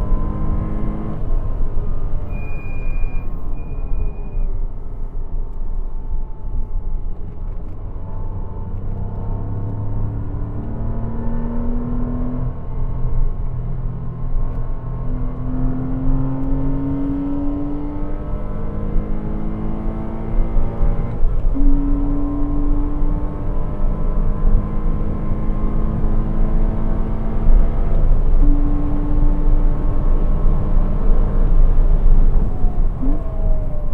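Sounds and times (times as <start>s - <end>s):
car engine accelerating hard: 0.0s - 2.2s, 7.8s - 33.9s
wind and tyre noise: 0.0s - 33.9s.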